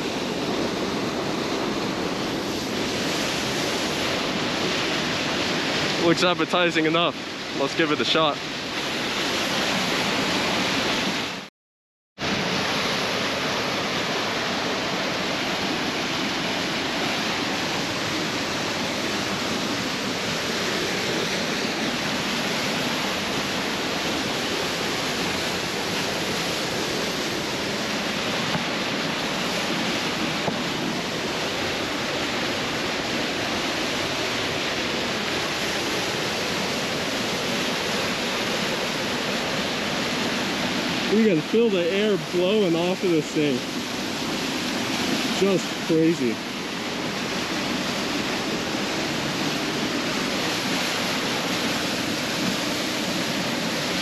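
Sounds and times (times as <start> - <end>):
waterfall roaring: 0.0 - 11.5, 12.2 - 54.0.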